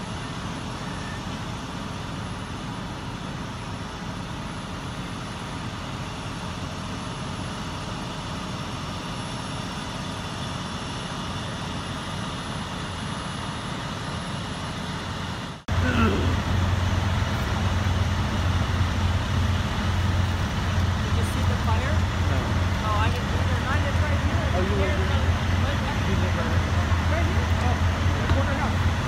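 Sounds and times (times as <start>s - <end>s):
fire engines idling: 0.0s - 29.0s
outdoor noise: 0.0s - 29.0s.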